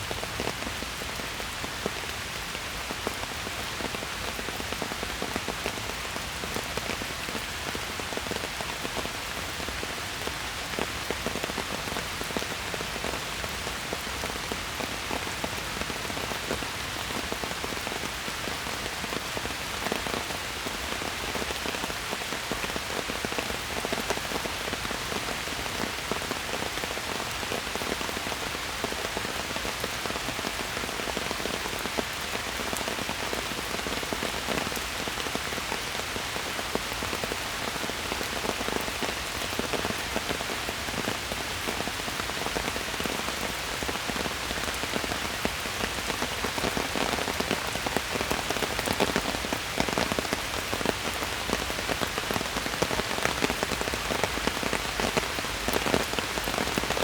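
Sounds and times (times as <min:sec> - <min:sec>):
rain drops hitting leaves: 0:00.0 - 0:57.0.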